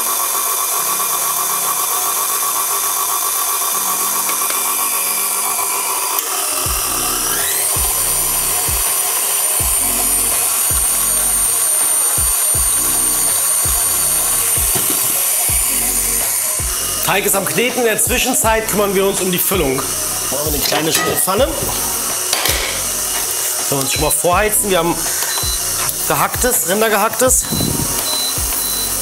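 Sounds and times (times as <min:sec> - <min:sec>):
stand mixer motor running: 0:00.0 - 0:29.0.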